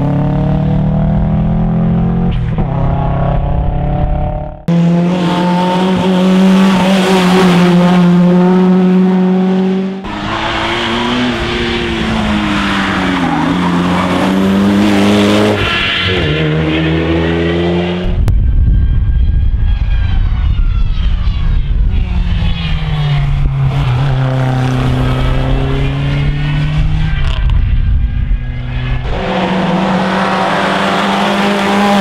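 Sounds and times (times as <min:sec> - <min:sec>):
rally car engines revving high: 0:00.0 - 0:18.2, 0:21.3 - 0:32.0.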